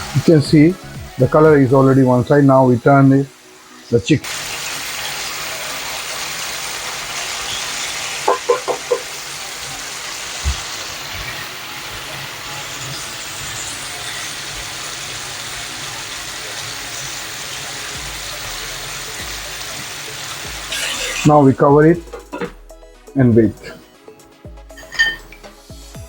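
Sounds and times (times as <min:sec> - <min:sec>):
chicken sizzling in hot oil: 0:00.0 - 0:22.3.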